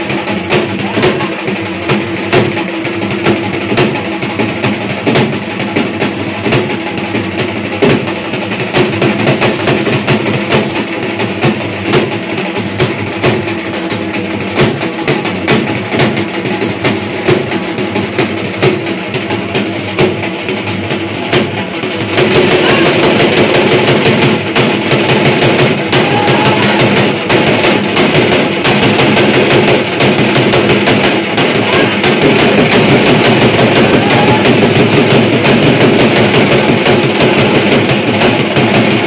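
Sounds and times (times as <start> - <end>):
fast devotional drumming: 0.0 - 39.0.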